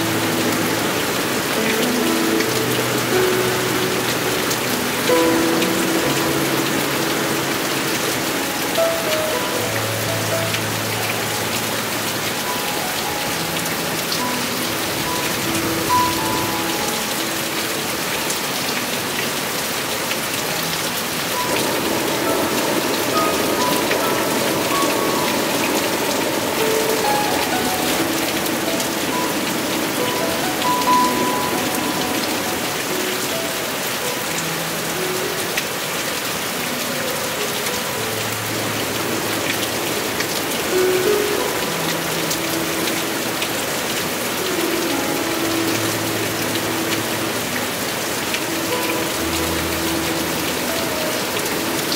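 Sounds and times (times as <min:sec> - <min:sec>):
heavy rain: 0:00.0 - 0:51.9.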